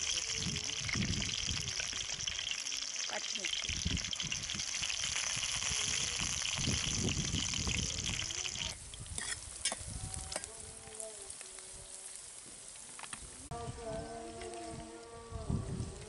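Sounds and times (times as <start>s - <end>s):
onions sizzling in hot oil: 0.0s - 13.1s.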